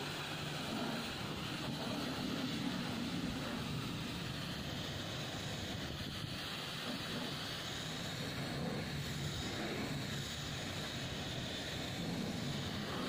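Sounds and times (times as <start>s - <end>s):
pressure washer spraying: 0.0s - 13.0s.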